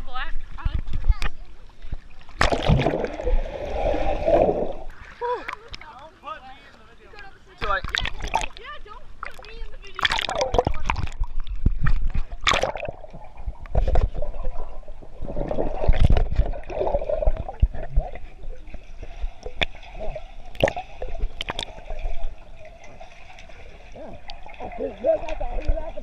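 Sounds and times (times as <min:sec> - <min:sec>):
water sloshing and gurgling: 0:00.0 - 0:26.0.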